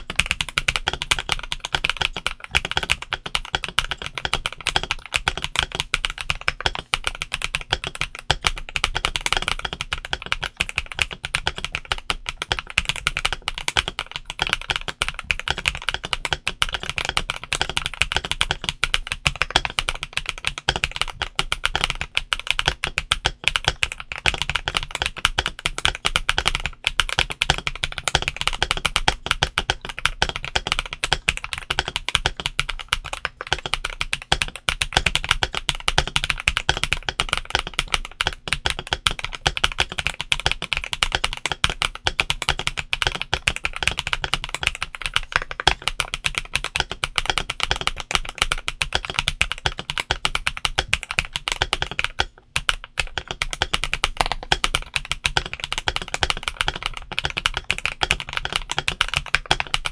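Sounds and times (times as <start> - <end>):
fast typing on mechanical keyboard: 0.0 - 59.9.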